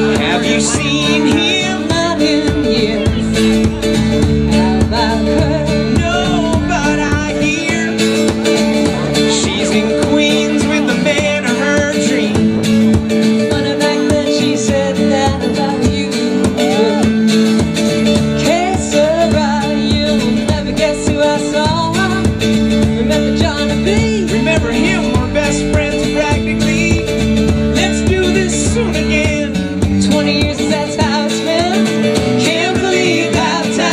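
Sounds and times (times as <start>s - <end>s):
person singing: 0.0s - 33.9s
strummed acoustic guitar: 0.0s - 33.9s.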